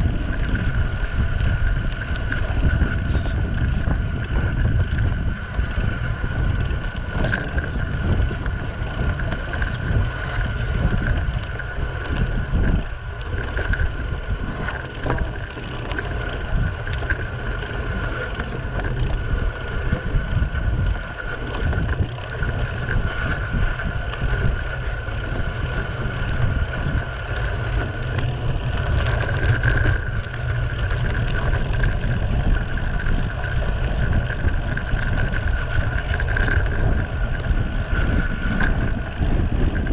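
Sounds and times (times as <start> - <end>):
low rumble of ride: 0.0 - 39.9
steady high whine: 0.0 - 39.9
wind buffeting microphone: 0.0 - 39.9.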